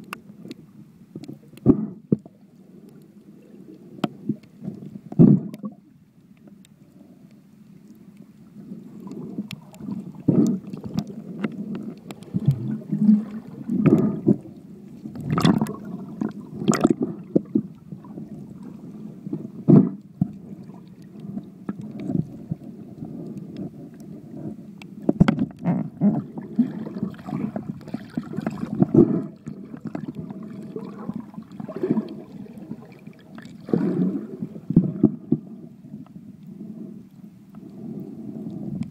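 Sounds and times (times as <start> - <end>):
underwater gurgling and rumbling: 0.0 - 38.9.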